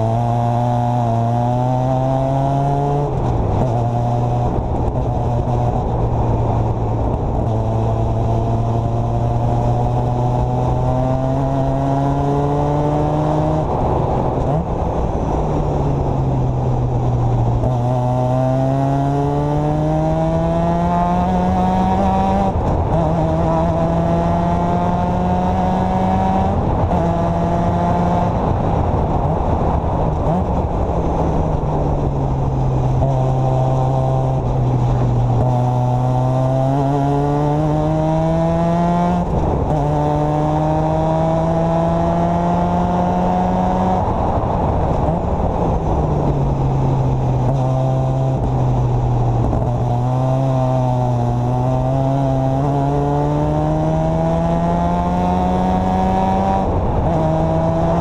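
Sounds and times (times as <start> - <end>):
racing car engine accelerating: 0.0 - 58.0
wind and road noise: 0.0 - 58.0.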